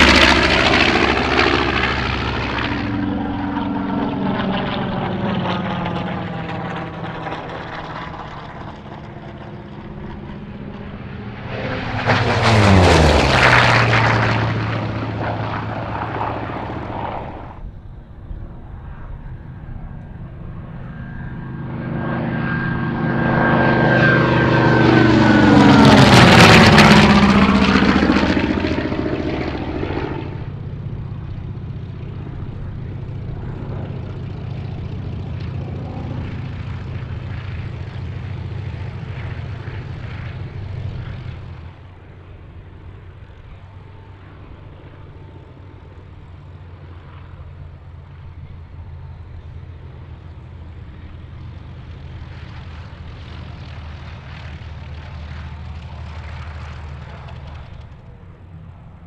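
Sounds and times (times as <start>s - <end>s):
propeller plane flyby: 0.0s - 59.0s
propeller planes taxiing: 0.0s - 59.0s.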